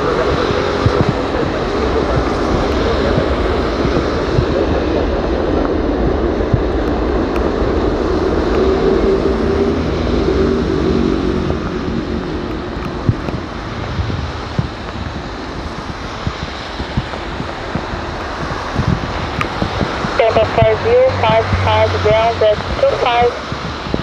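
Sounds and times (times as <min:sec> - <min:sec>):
jet engines rumbling: 0:00.0 - 0:24.0
rain: 0:00.0 - 0:24.0
storm wind: 0:00.0 - 0:24.0.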